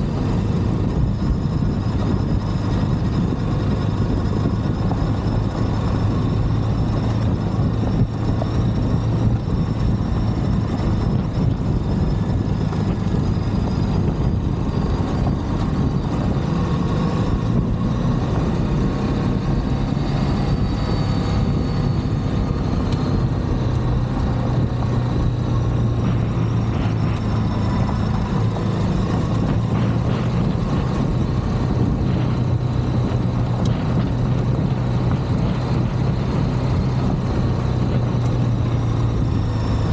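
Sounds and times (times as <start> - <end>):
motorcycle engine cruising: 0.0 - 39.9
road noise on gravel: 0.0 - 39.9
steady low hum: 0.0 - 39.9
wind rushing: 0.0 - 39.9.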